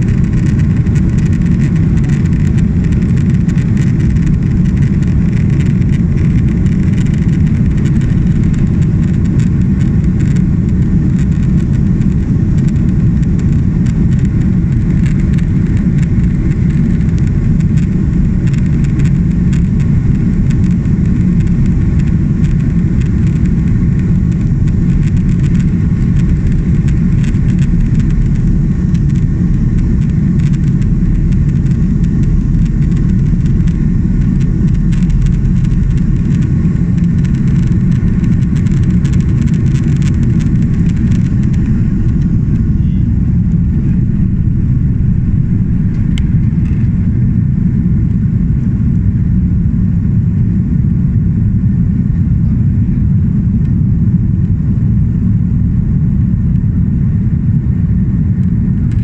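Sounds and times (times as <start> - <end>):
low rumble of engines and wheels: 0.0 - 59.0.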